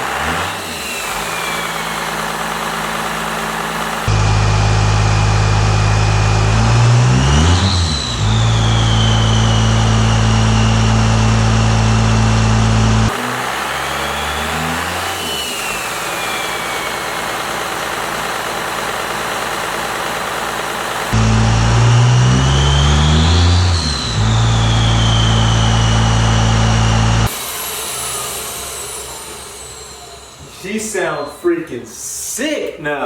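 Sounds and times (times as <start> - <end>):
high turbo whistle: 0.0 - 3.0, 4.0 - 18.4, 21.1 - 31.6
diesel engine idling and revving: 0.0 - 30.5.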